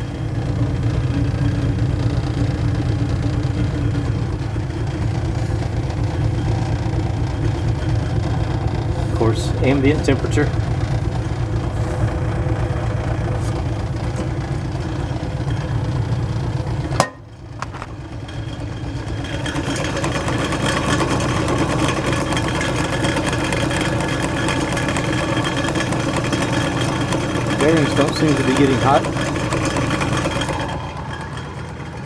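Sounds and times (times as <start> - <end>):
refrigerator motor running: 0.0 - 32.0.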